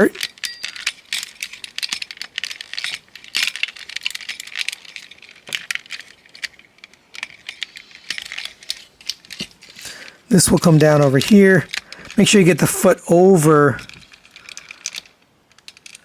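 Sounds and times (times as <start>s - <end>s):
plastic toy parts clicking: 0.0s - 16.0s.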